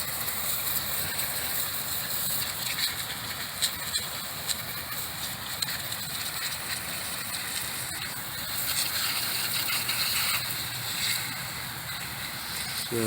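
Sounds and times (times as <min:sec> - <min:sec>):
hose water spray hissing: 0:00.0 - 0:13.0.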